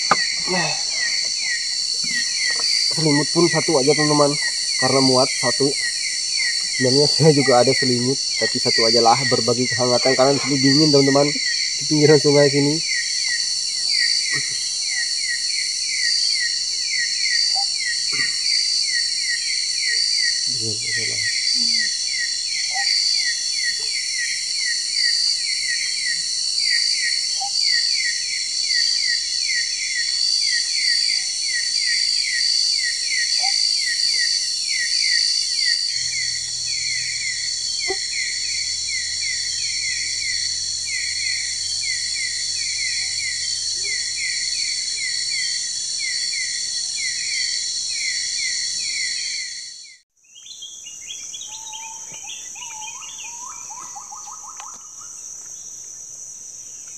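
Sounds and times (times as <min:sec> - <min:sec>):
insect falling chirp: 0:00.0 - 0:12.8, 0:19.9 - 0:49.6, 0:51.2 - 0:56.0
bird chirps: 0:00.0 - 0:13.1, 0:19.5 - 0:55.7
insects buzzing shrilly: 0:00.0 - 0:56.9.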